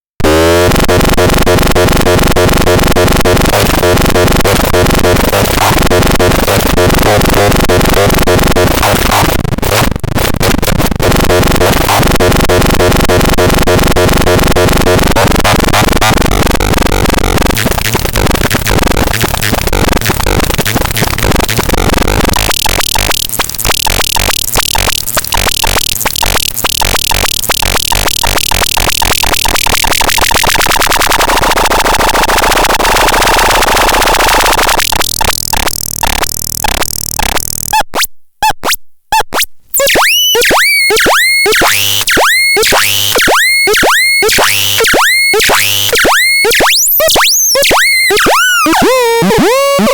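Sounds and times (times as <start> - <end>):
distorted electronic music: 0.2 - 38.6, 39.2 - 49.9.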